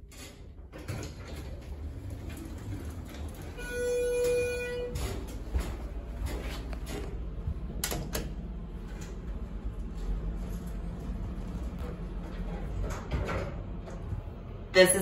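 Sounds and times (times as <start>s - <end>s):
elevator doors sliding: 0.0s - 14.7s
low steady hum: 0.0s - 15.0s.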